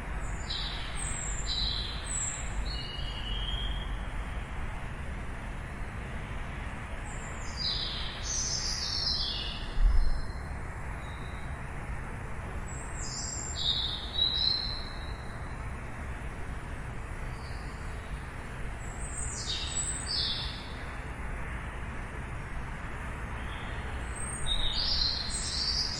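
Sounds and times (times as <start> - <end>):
distant traffic rumble: 0.0 - 25.9
songbirds chirping: 0.0 - 25.9.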